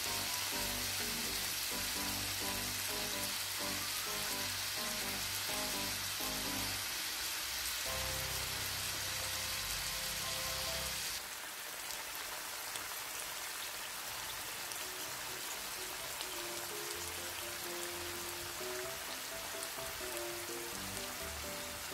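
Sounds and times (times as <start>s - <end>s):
garlic sizzling in hot oil: 0.0s - 11.2s, 14.8s - 21.9s.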